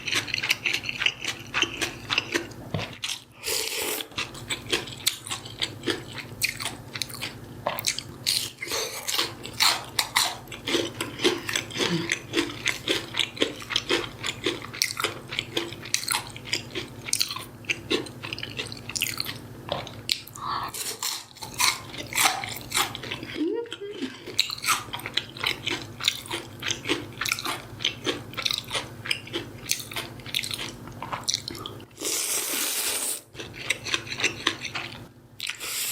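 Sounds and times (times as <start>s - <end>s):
crunchy chewing: 0.0s - 23.4s, 24.0s - 35.9s
low steady hum: 0.0s - 32.6s.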